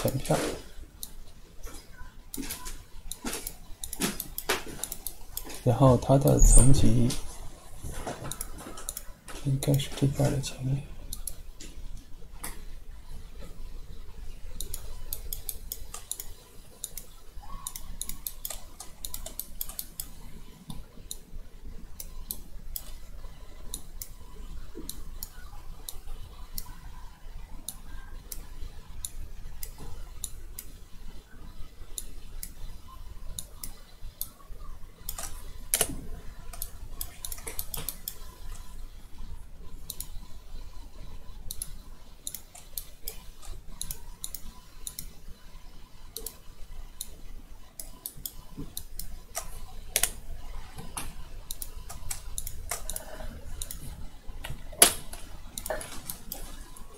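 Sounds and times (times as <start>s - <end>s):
computer mouse clicks: 0.0s - 7.3s, 8.1s - 10.2s, 11.1s - 12.7s, 14.5s - 21.3s, 21.9s - 30.8s, 31.9s - 34.4s, 35.0s - 45.2s, 46.0s - 56.9s
low background hum: 0.0s - 56.9s.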